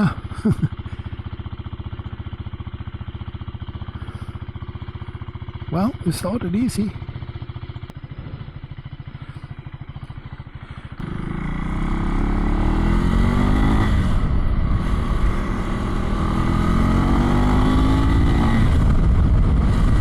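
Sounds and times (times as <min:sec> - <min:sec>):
motorcycle engine idling and accelerating: 0:00.0 - 0:20.0.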